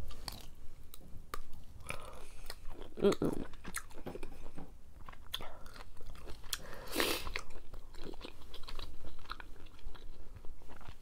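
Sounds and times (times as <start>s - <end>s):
wet chewing mouth sounds: 1.3s - 11.0s.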